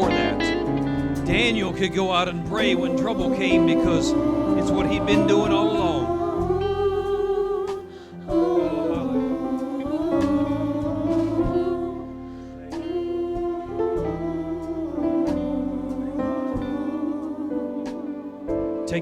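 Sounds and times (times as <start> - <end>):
soft worship music with guitar: 0.0 - 19.0.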